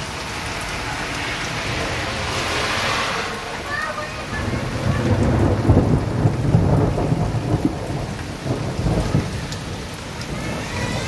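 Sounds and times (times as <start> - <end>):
heavy rain on street: 0.0 - 11.0
thunder rumbling: 0.0 - 11.0.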